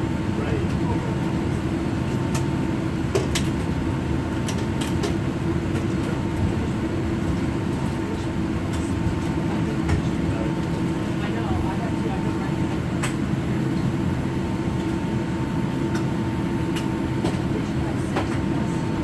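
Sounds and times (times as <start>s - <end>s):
aircraft engine rumble and hum: 0.0s - 19.0s.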